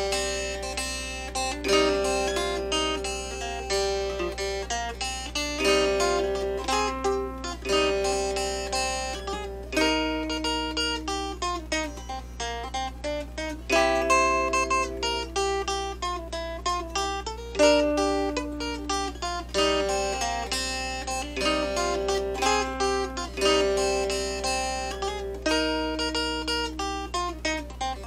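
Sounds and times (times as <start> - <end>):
mountain dulcimer melody: 0.0 - 28.0.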